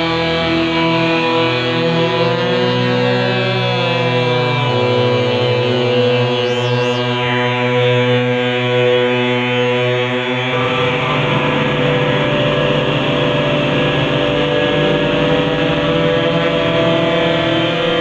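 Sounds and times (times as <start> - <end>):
synthesized drone: 0.0 - 18.0.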